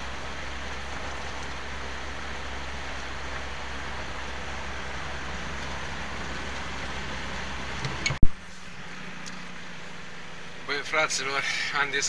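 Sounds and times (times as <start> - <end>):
road noise hiss: 0.0 - 12.0
truck engine drone: 0.0 - 12.0.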